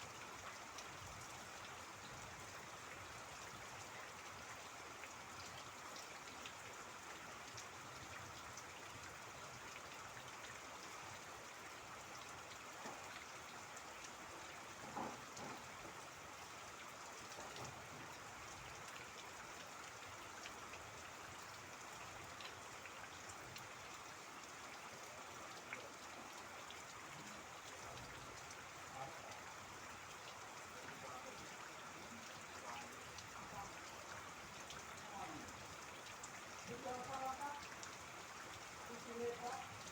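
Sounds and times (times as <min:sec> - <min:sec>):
rain pattering: 0:00.0 - 0:39.9
water trickling: 0:00.1 - 0:39.9.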